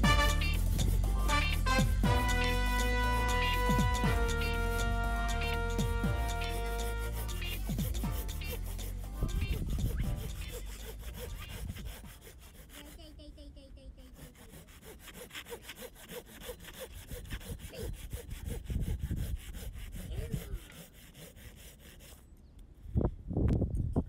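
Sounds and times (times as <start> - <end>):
hand saw cutting wood: 0.0 - 13.3, 14.0 - 22.3.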